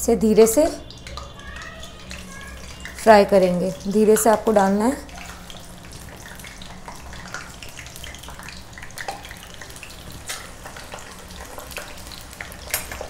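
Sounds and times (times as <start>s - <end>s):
deep-frying sizzle with pops: 0.0s - 13.0s.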